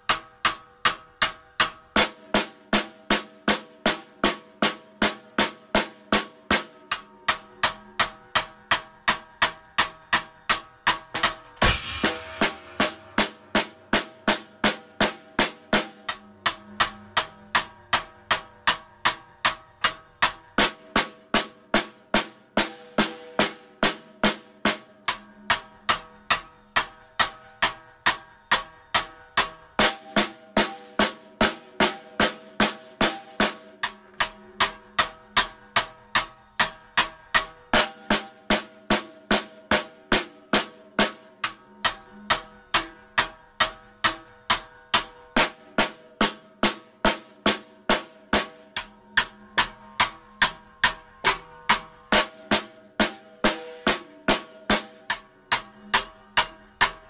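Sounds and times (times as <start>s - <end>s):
drum kit beat: 0.8s - 24.9s, 29.8s - 57.0s.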